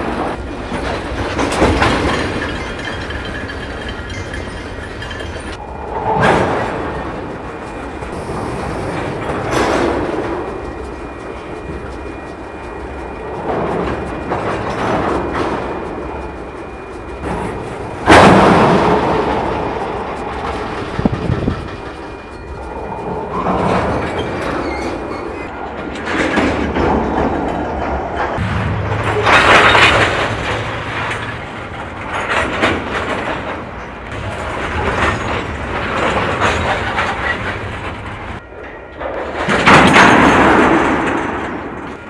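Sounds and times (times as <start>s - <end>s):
railcar couplers thudding: 0.0s - 42.0s.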